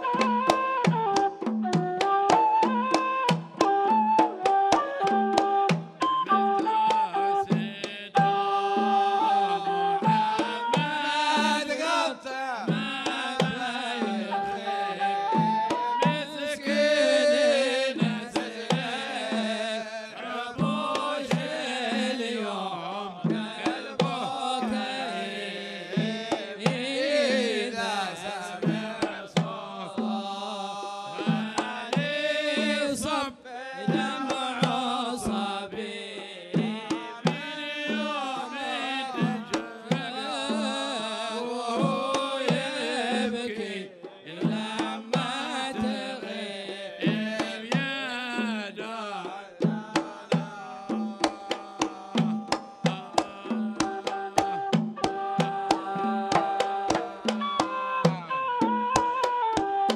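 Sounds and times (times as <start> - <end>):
hand drums beating: 0.0 - 59.9
men singing: 2.5 - 59.9.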